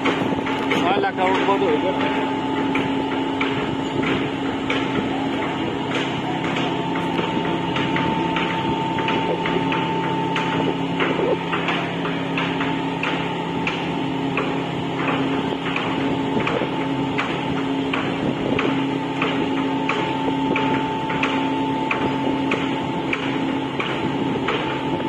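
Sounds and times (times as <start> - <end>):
engine humming: 0.0 - 24.8
sharp knocks: 0.0 - 25.0.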